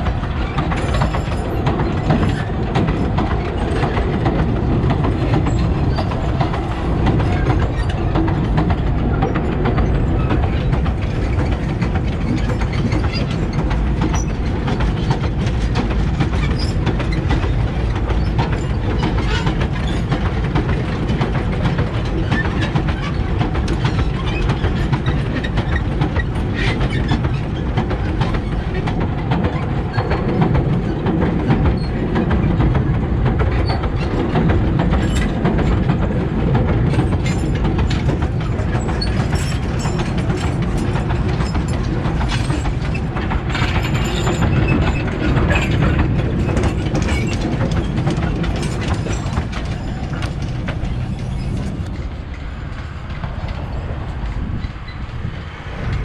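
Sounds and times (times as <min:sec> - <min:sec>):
steel wheels rumbling on rails: 0:00.0 - 0:56.0
wagons rattling and clanking: 0:00.0 - 0:56.0.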